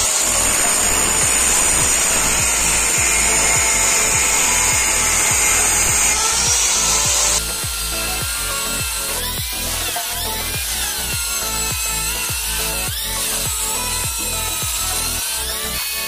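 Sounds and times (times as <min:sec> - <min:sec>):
angle grinder cutting steel: 0:00.0 - 0:16.0.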